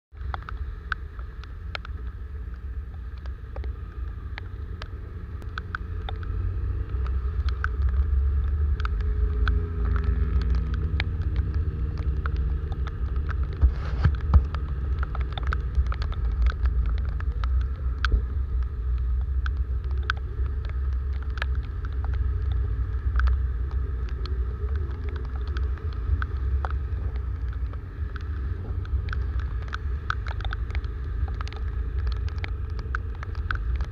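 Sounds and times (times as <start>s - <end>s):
raindrops ticking on camera: 0.1s - 33.9s
wind rumbling on microphone: 0.1s - 33.9s.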